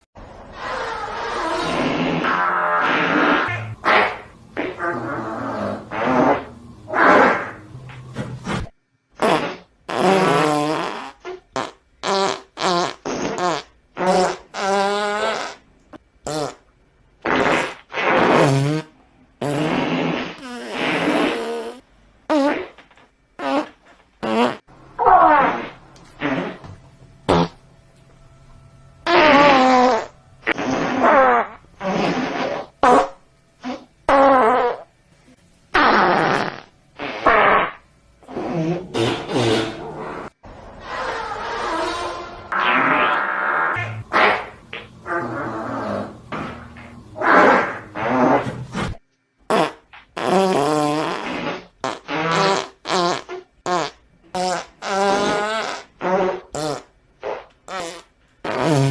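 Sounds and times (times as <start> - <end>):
fart sound effects: 0.5 - 27.6, 29.0 - 34.9, 35.7 - 58.9.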